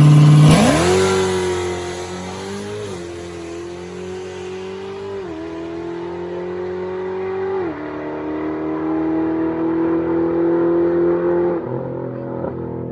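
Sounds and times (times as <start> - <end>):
car engine accelerating: 0.0 - 12.9.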